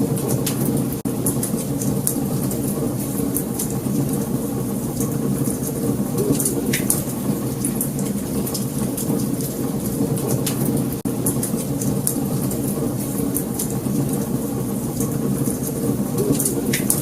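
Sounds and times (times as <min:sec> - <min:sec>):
wood fire roaring: 0:00.0 - 0:17.0.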